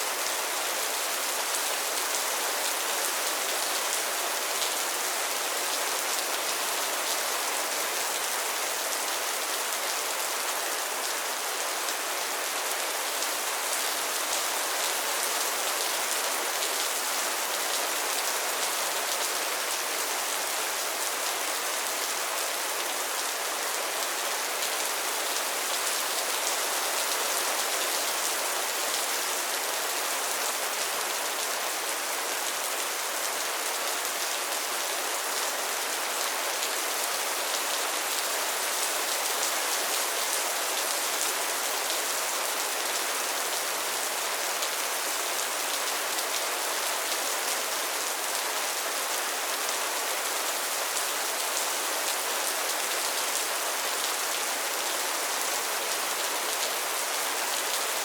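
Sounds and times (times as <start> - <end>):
rain falling on pond water: 0.0 - 58.0.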